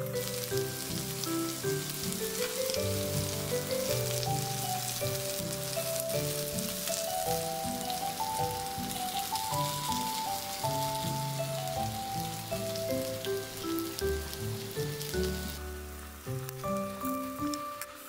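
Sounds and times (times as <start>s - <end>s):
gentle background music: 0.0s - 18.0s
pork sizzling on a grill pan: 0.0s - 18.0s.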